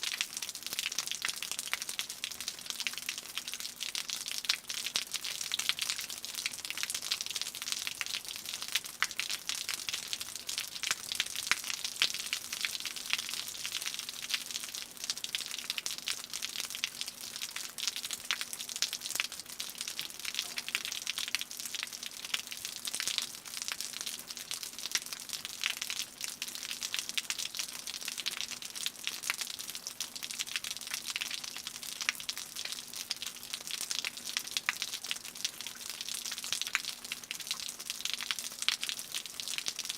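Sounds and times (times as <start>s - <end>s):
raindrops dripping from roof: 0.0s - 39.9s.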